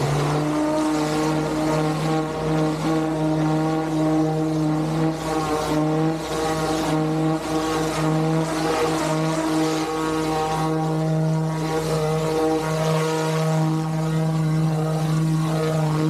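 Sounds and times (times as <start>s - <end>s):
high-pressure water spray hissing: 0.0s - 16.0s
pressure washer engine running: 0.0s - 16.0s.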